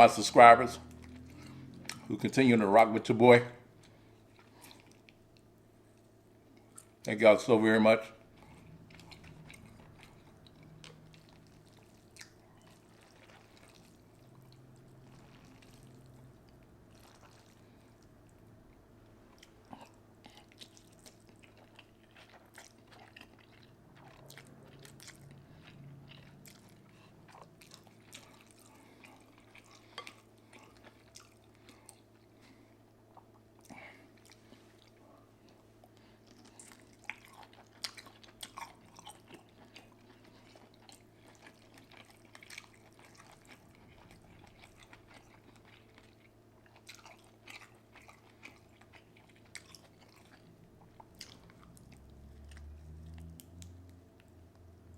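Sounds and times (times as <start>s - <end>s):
person chewing food: 0.0s - 2.2s, 3.7s - 7.0s, 8.2s - 54.9s.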